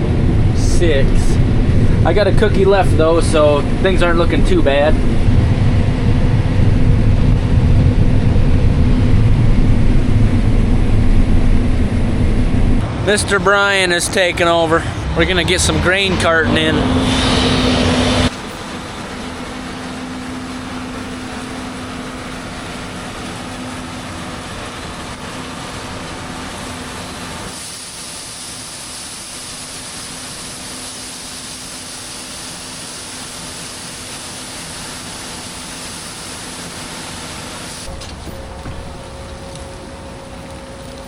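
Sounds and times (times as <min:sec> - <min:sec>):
heavy machinery engine hum: 0:00.0 - 0:41.0.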